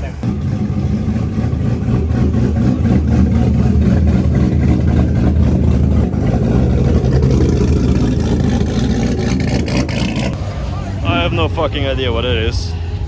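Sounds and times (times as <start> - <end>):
car engine running loudly: 0.0 - 13.0.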